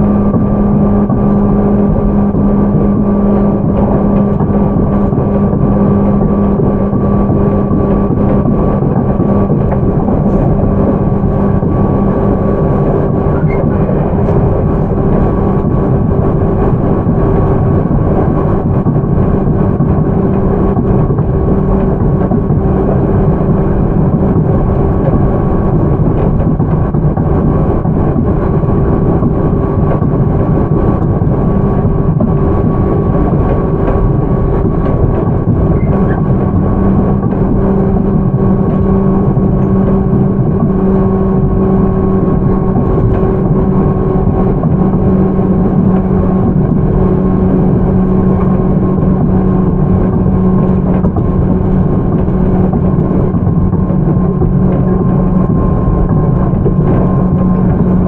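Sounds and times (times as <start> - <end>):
traction motor hum: 0.0 - 58.0
train wheels rumbling on rails: 0.0 - 58.0.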